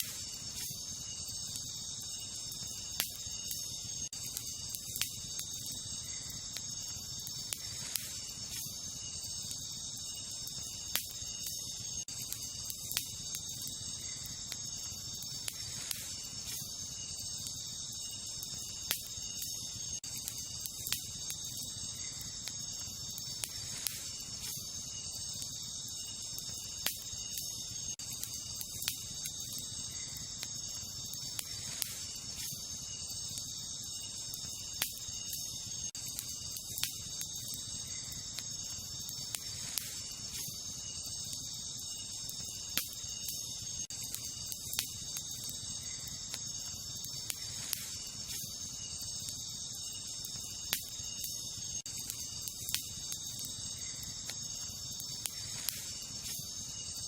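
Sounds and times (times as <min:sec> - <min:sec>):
campfire crackling and popping: 0:00.0 - 0:57.0
night insects chorus: 0:00.0 - 0:57.0.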